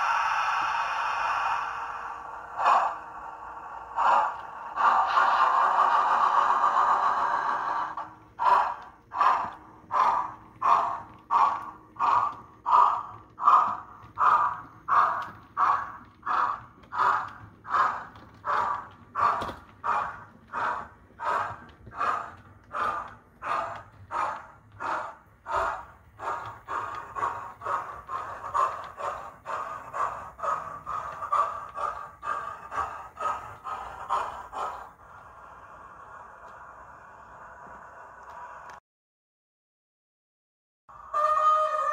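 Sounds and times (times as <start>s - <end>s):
steam locomotive chuffs: 0.0s - 38.8s.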